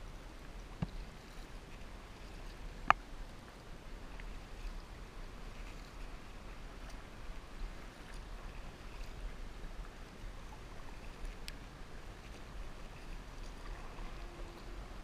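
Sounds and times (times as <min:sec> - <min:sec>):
paddle strokes in water: 0:00.0 - 0:15.0
wind rumble on microphone: 0:00.0 - 0:15.0.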